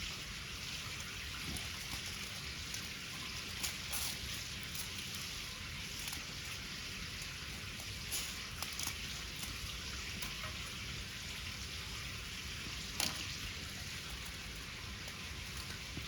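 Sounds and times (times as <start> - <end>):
wood fire crackling and hissing: 0.0 - 16.0.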